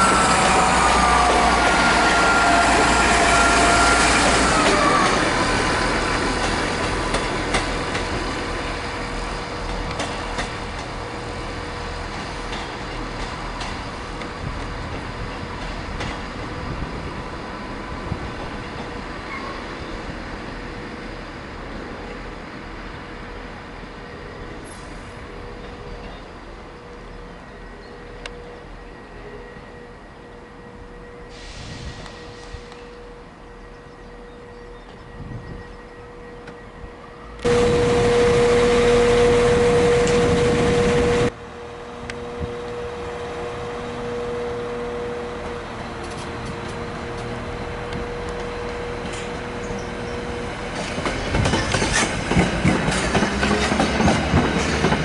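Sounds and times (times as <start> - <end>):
diesel train pulling away: 0.0 - 55.0.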